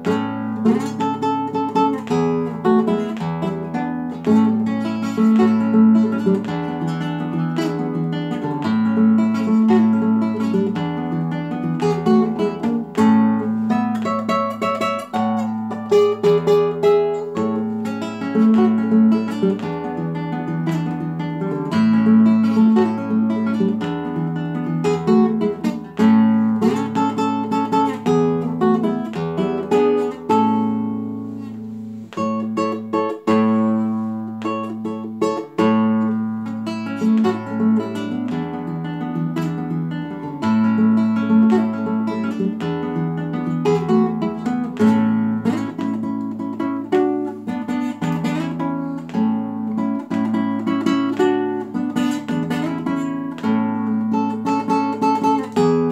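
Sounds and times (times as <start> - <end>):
classical guitar folk dance: 0.0 - 55.9.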